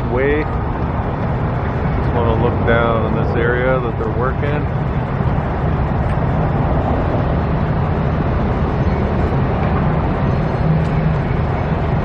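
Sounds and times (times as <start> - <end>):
low engine rumble: 0.0 - 12.0
street noise: 0.0 - 12.0.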